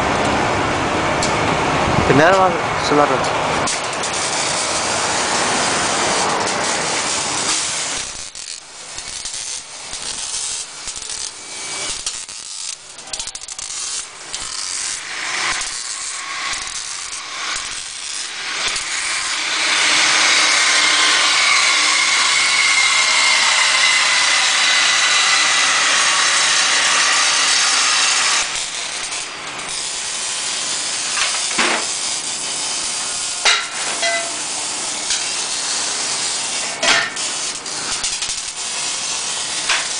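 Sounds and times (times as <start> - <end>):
power tool running: 2.0 - 39.9.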